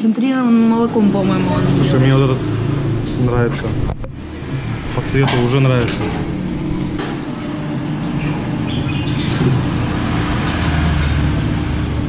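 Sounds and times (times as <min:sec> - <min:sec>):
low mechanical rumble and hum: 0:00.2 - 0:12.0.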